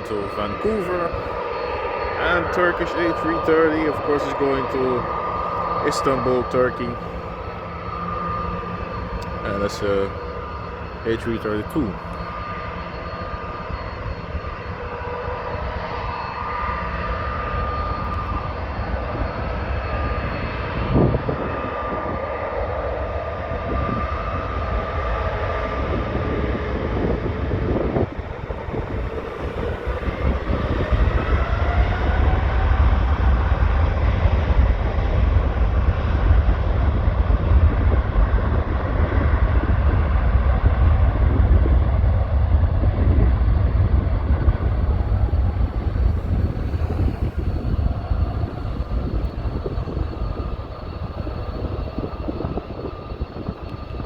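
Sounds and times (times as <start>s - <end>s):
jet engines on takeoff: 0.0s - 54.0s.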